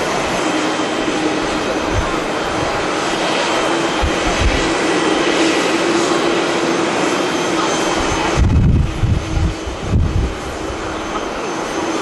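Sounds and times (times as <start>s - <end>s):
wind buffeting microphone: 0.0s - 7.1s, 7.8s - 11.4s
jet engines roaring: 0.0s - 12.0s.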